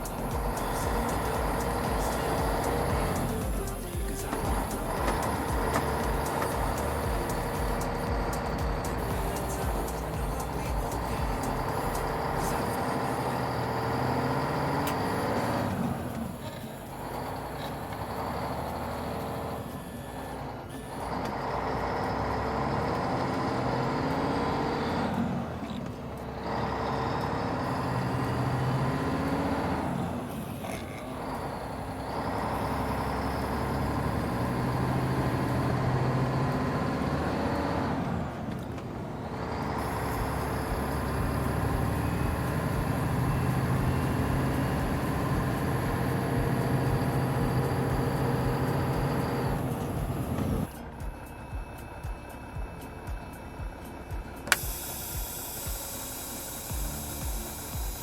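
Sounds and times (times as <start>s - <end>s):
heavy truck engine running: 0.0s - 58.0s.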